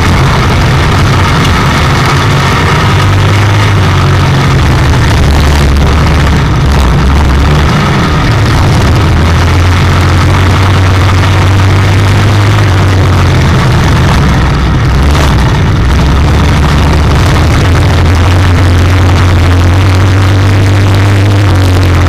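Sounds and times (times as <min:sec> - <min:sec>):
racing car engine running hard: 0:00.0 - 0:22.0.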